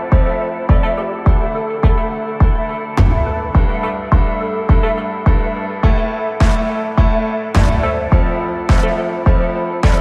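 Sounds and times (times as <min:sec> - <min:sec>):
electronic beat: 0:00.0 - 0:10.0
synth chords: 0:00.0 - 0:10.0.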